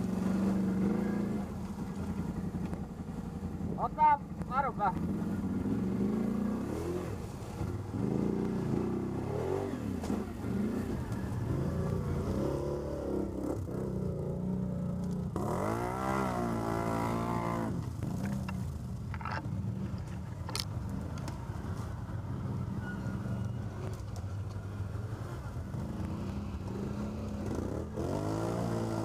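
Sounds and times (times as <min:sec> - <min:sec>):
atv engine revving: 0:00.0 - 0:21.6, 0:22.2 - 0:29.0.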